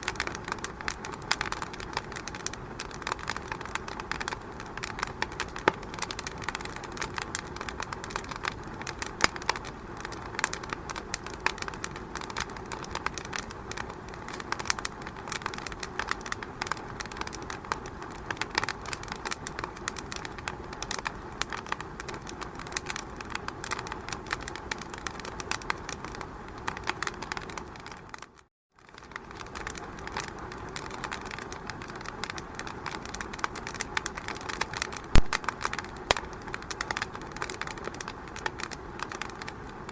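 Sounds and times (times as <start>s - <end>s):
fire crackling in a fireplace: 0.0s - 39.9s.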